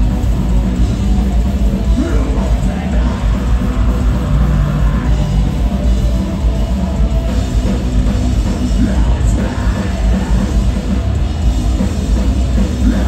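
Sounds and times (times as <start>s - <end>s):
distorted guitars and bass: 0.0s - 13.0s
pounding drums: 0.0s - 13.0s.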